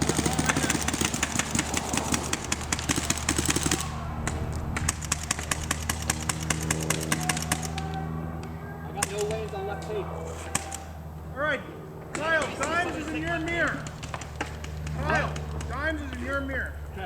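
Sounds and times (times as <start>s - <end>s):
paintball markers firing: 0.0s - 11.0s, 12.1s - 16.4s
steady low hum: 0.0s - 17.0s.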